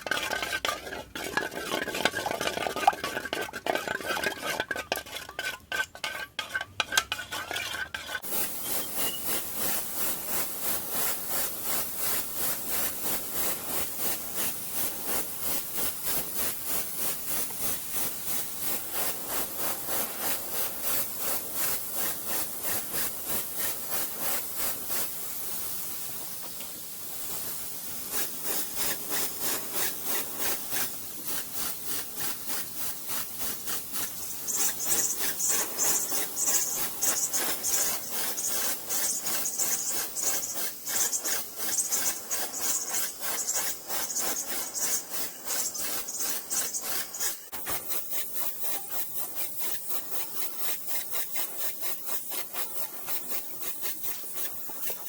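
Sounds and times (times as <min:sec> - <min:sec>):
brush scraping on metal: 0:00.0 - 0:25.5, 0:27.2 - 0:55.0.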